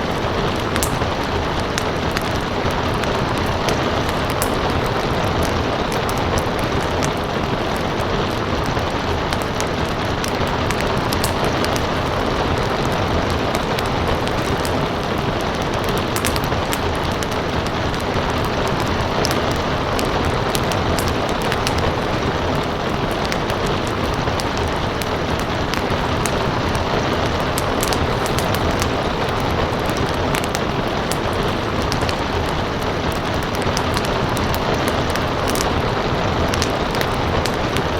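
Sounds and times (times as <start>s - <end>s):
rain hiss: 0.0s - 37.9s
wood fire crackling: 0.0s - 37.9s.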